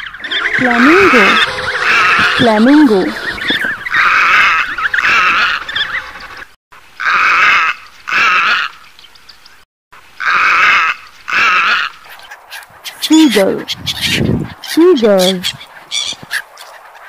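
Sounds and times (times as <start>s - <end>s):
flamingos honking: 0.0s - 6.4s, 7.0s - 8.8s, 10.2s - 17.0s.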